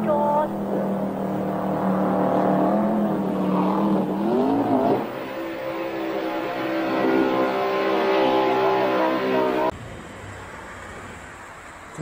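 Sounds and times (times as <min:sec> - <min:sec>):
churning water rushing: 0:00.0 - 0:09.7
powerboat engine at high revs: 0:00.0 - 0:09.7.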